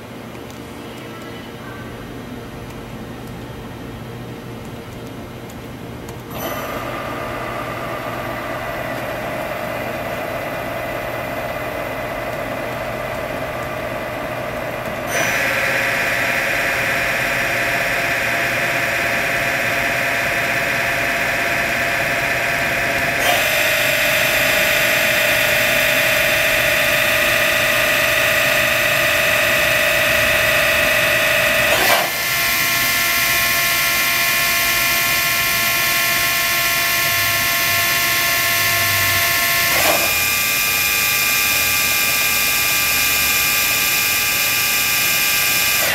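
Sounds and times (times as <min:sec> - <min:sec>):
machine spindle whine: 0:06.3 - 0:45.9.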